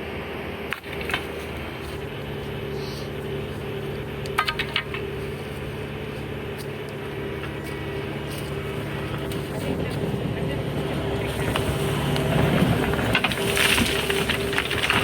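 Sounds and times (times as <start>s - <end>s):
motor humming: 0.7s - 15.0s.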